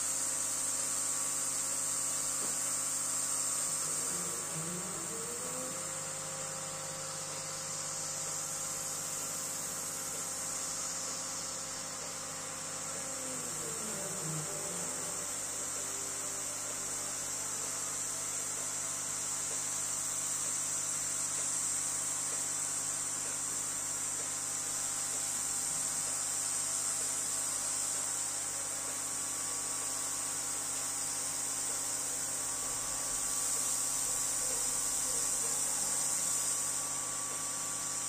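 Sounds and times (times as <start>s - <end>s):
laser engraver hiss and hum: 0.0s - 38.0s.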